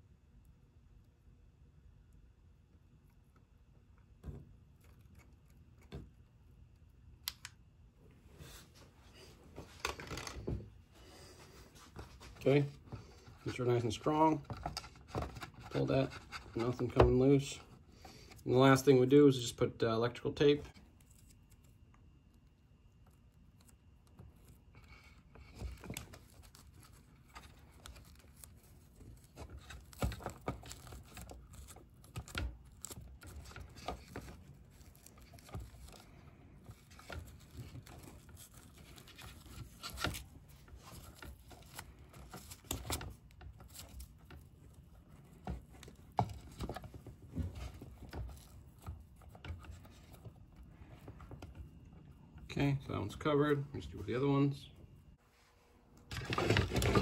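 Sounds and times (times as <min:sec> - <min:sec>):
tape crackling and rustling: 0:03.0 - 0:18.9, 0:20.3 - 0:54.0, 0:55.8 - 0:57.0.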